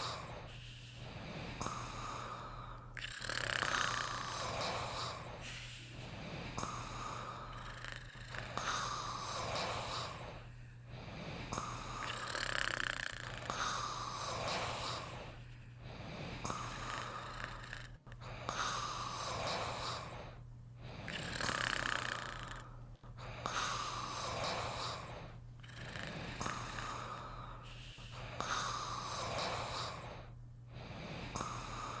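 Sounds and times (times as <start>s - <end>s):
person snoring: 0.0s - 32.0s
steady low hum: 0.0s - 32.0s.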